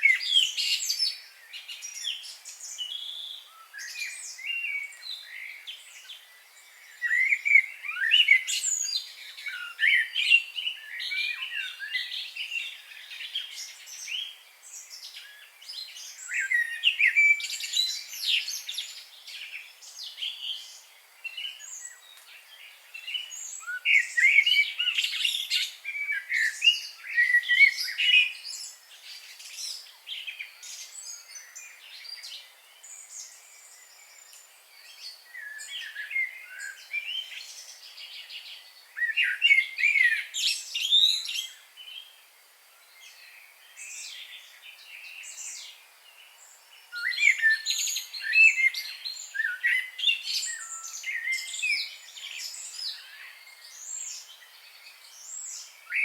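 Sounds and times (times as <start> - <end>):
wild birds singing: 0.0 - 56.0.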